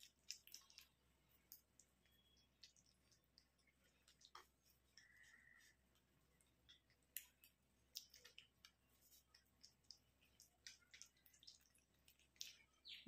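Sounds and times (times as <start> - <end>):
faint clicks and crackles of face scrub: 0.0 - 13.0.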